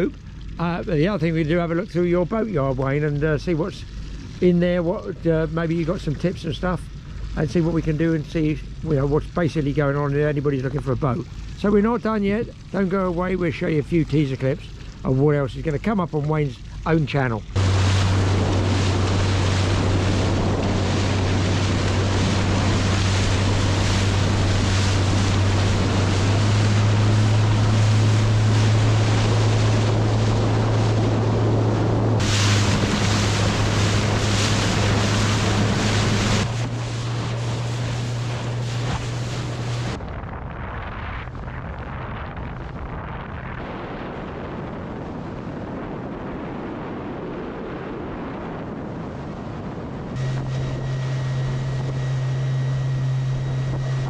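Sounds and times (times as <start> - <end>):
outboard motor droning: 0.0 - 54.0
water rushing along hull: 0.0 - 54.0
wind buffeting microphone: 0.0 - 54.0.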